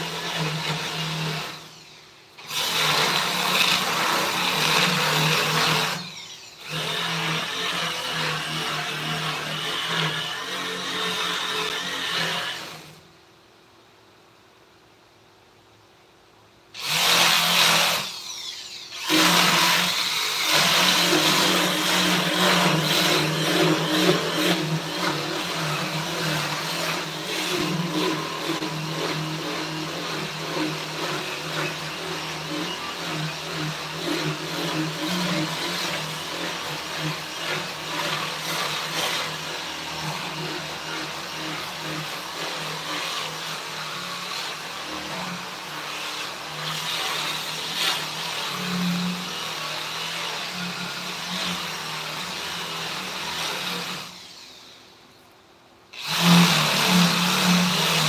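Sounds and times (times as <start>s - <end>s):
power tool cutting wood: 0.0s - 13.0s, 16.8s - 54.9s, 56.0s - 58.0s.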